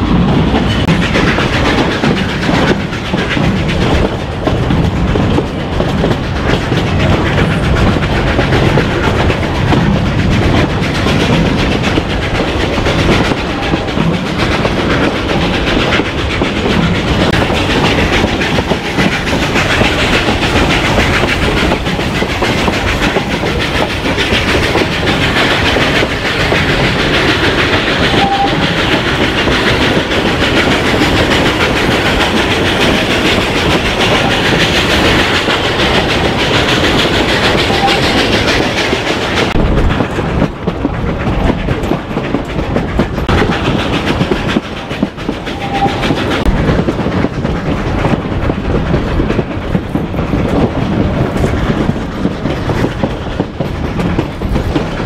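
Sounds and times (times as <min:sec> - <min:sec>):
train cars rumbling and rattling: 0:00.0 - 0:55.0
wheels clicking over rail joints: 0:00.2 - 0:55.0.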